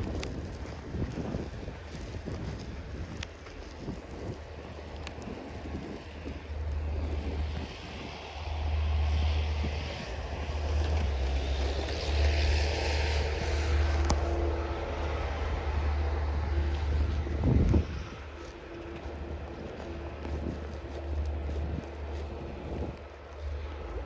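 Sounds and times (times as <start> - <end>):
city traffic hiss: 0.0 - 24.0
wind buffeting microphone: 0.0 - 24.0.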